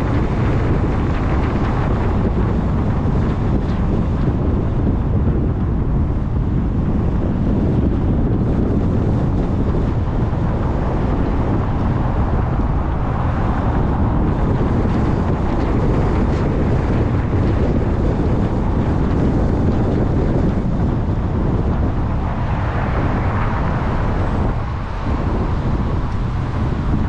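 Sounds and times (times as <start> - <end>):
car road noise: 0.0 - 27.0
wind buffeting microphone: 0.0 - 27.0.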